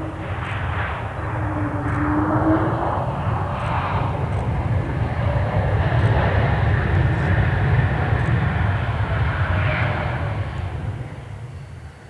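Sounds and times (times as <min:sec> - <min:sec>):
jet airliner passing: 0:00.0 - 0:12.0.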